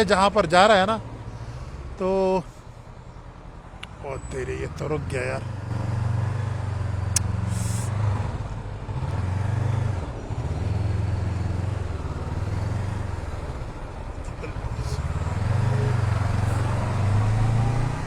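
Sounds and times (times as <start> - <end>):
motorcycle engine rumbling: 0.0 - 8.9, 9.9 - 18.0.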